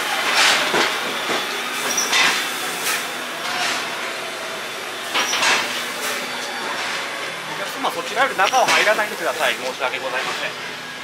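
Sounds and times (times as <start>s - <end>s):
steam locomotive hissing steam: 0.0s - 11.0s.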